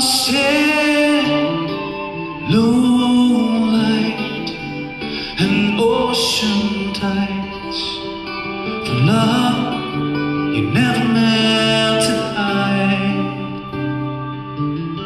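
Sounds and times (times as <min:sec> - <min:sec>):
rock band playing: 0:00.0 - 0:15.0
voices singing long notes: 0:00.0 - 0:15.0.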